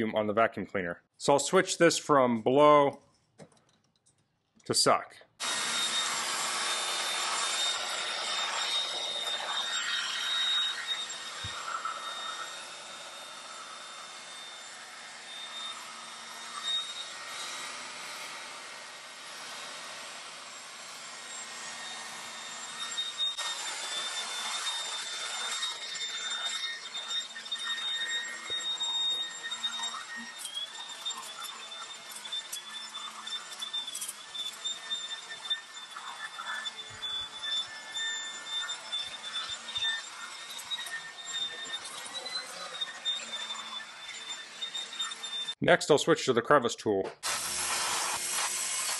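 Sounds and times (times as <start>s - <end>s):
vacuum cleaner running: 5.4s - 45.6s, 47.2s - 48.9s.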